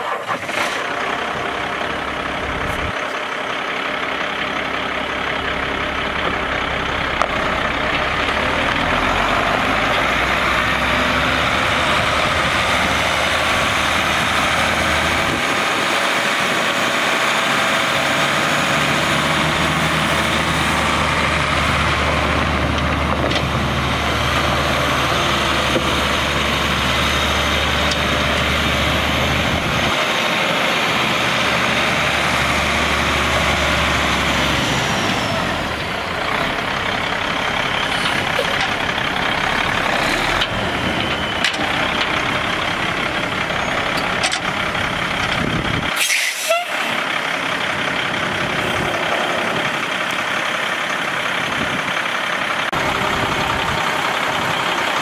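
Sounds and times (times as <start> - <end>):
diesel truck engine idling: 0.8 - 55.0.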